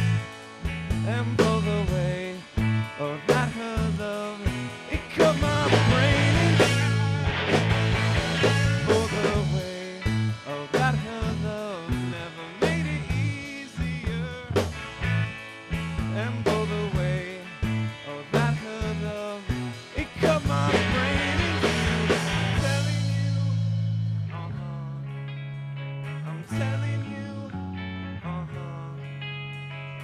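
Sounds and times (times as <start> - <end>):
drum kit: 0.0 - 24.4
electric guitars: 0.0 - 30.0
man singing: 0.9 - 7.5, 8.4 - 14.7, 16.0 - 23.7, 24.3 - 25.2, 26.1 - 29.3.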